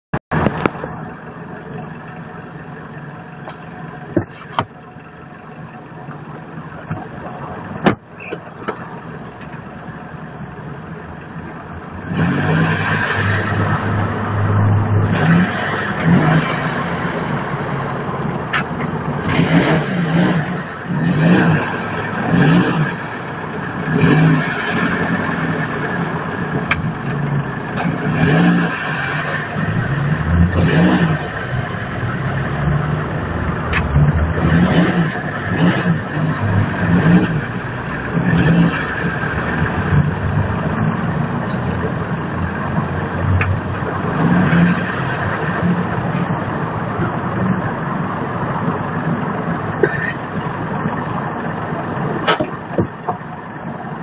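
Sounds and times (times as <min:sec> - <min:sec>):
car engine revving: 0:08.8 - 0:53.0.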